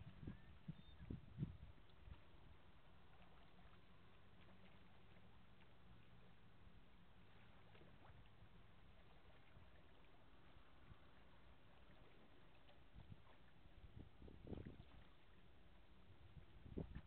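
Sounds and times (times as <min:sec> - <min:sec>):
faint outdoor hiss: 0:00.0 - 0:17.0
low hum: 0:00.0 - 0:17.0.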